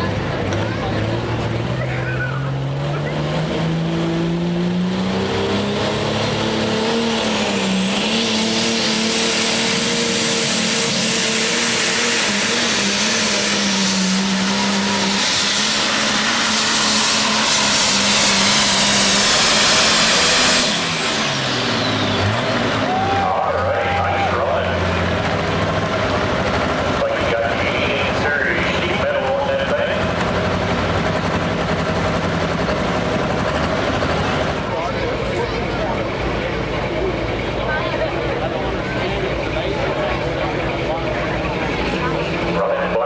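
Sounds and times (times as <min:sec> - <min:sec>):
tractor engine at full throttle: 0:00.0 - 0:43.0.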